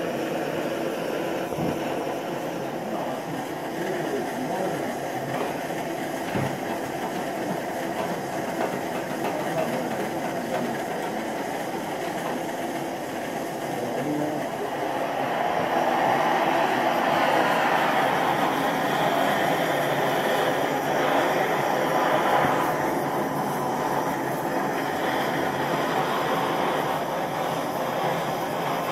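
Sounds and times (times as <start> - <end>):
gas torches burning: 0.0 - 28.9.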